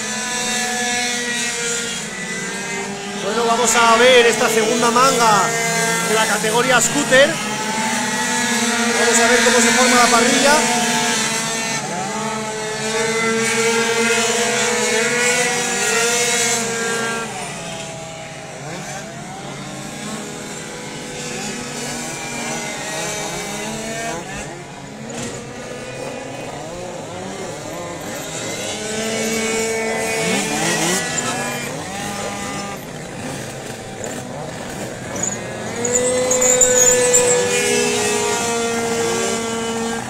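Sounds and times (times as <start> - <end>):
two-stroke scooter engines whining: 0.0 - 40.0.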